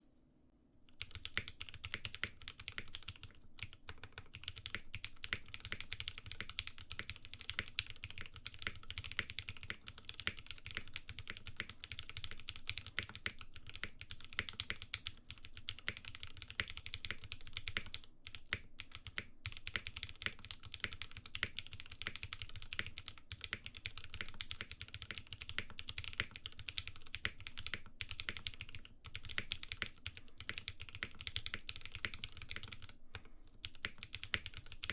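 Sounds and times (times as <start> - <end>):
fast typing on mechanical keyboard: 0.9 - 33.0, 33.6 - 34.9.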